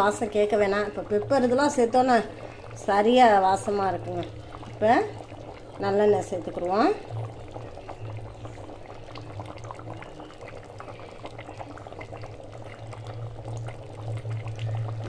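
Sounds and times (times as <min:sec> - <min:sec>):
curry bubbling in a pot: 0:00.0 - 0:15.0.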